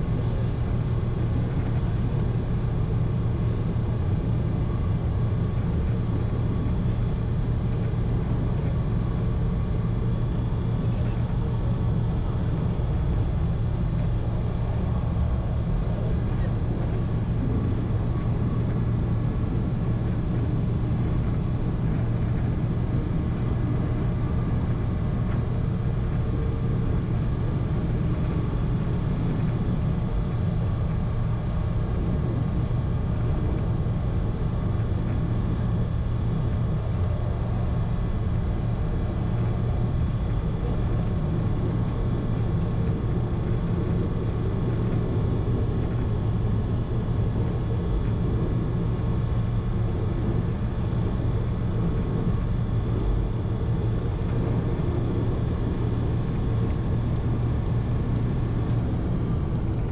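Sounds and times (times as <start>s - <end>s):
railmotor engine drone: 0.0s - 59.9s.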